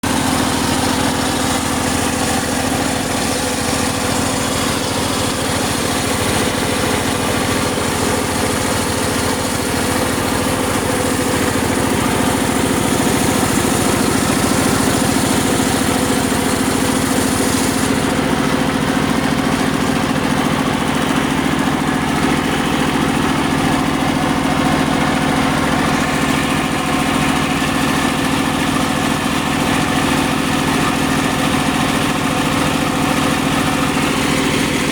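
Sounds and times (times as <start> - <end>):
circular saw machine hum: 0.0 - 29.1.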